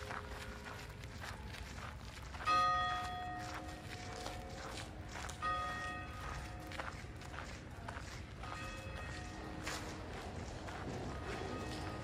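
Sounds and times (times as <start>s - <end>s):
footsteps on pavement: 0.0s - 12.0s.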